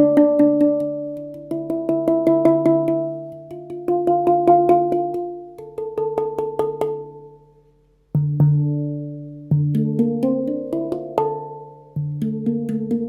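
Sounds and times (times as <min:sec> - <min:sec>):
handpan played by hand: 0:00.0 - 0:13.0.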